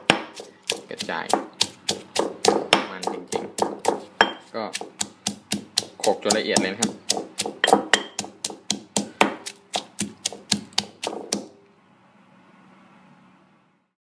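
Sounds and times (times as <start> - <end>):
stone pestle pounding in mortar: 0.0 - 11.5.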